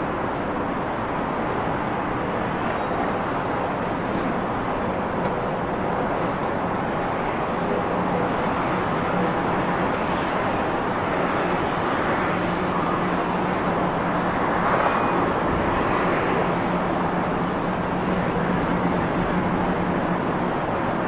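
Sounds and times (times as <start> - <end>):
jet engine rush: 0.0 - 21.0.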